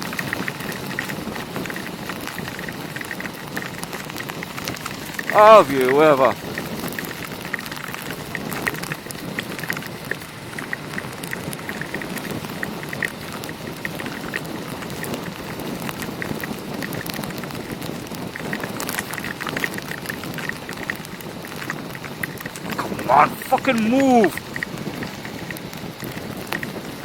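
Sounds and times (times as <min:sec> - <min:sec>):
heavy rain hitting camera: 0:00.0 - 0:27.0.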